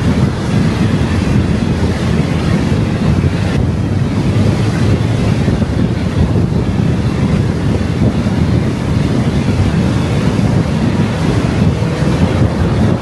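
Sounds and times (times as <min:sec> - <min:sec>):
car road and wind noise: 0:00.0 - 0:13.0
wind buffeting microphone: 0:00.0 - 0:13.0.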